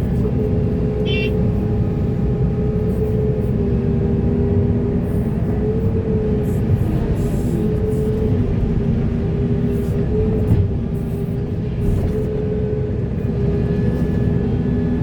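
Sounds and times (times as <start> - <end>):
excavator diesel engine rumbling: 0.0 - 15.0.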